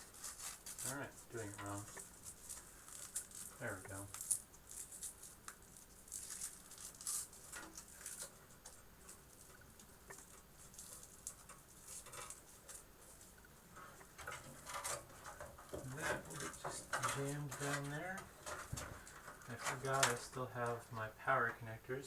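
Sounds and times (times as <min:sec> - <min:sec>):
cables rustling: 0:00.0 - 0:21.6.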